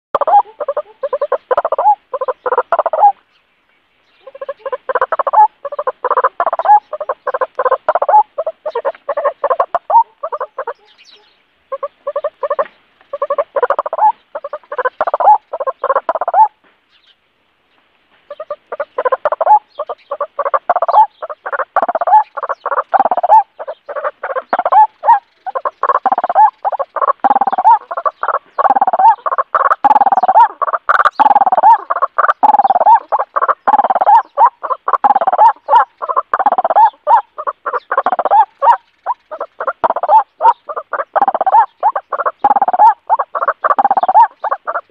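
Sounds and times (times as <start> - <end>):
waterhen calling harsh notes: 0.2 - 3.2, 4.2 - 16.6, 18.3 - 44.9.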